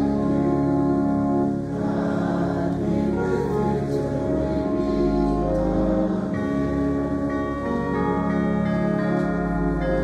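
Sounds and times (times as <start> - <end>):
organ playing sustained chords: 0.0 - 10.0.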